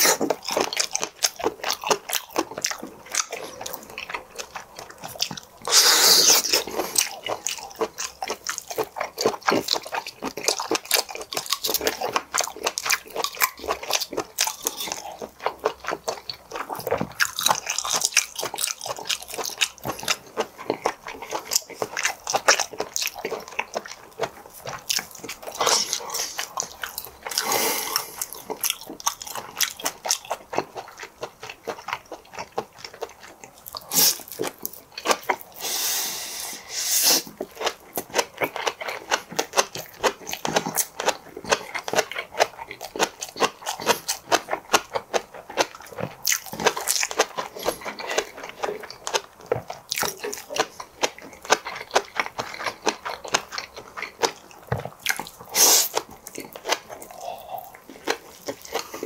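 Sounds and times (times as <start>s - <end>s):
mouth chewing clicks: 0.0s - 35.6s, 37.3s - 59.0s.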